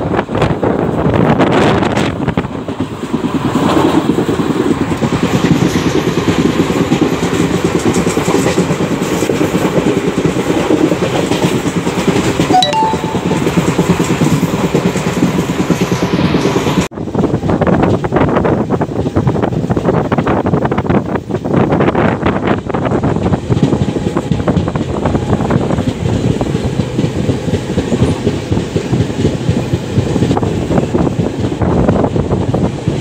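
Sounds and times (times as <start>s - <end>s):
train wheels rumbling on track: 0.0s - 12.9s, 13.5s - 33.0s.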